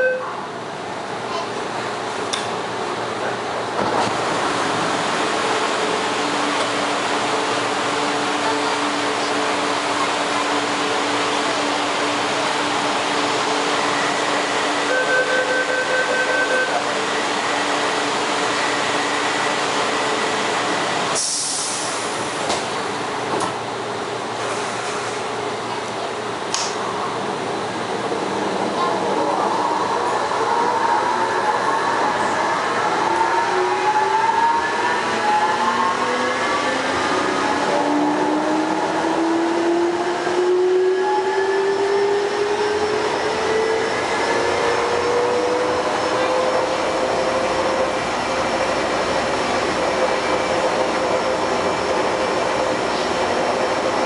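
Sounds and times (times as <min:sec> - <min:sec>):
metro train rumbling: 0:00.0 - 0:54.0.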